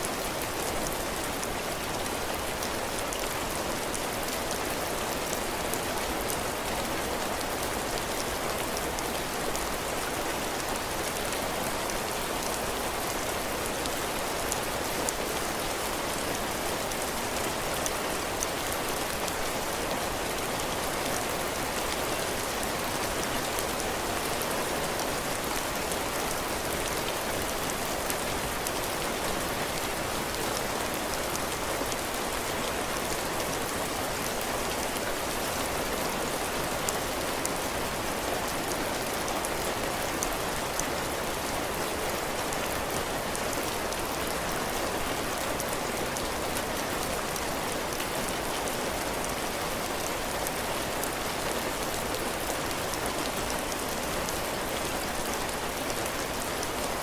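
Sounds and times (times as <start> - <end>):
heavy rain pattering on roof: 0.0 - 57.0.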